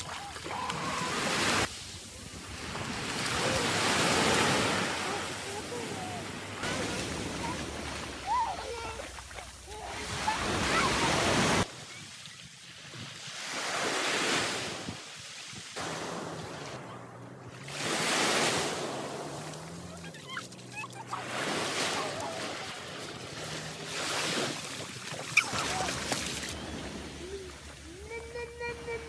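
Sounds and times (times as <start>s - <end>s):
small waves breaking on beach: 0.0s - 29.0s.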